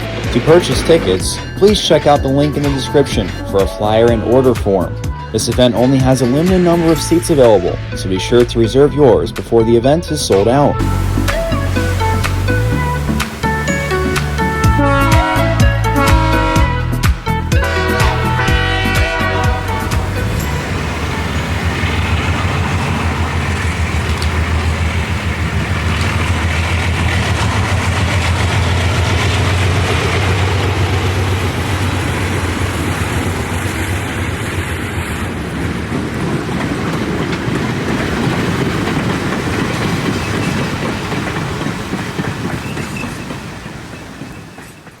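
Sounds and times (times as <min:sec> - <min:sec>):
diesel locomotive engine drone: 0:00.0 - 0:45.0.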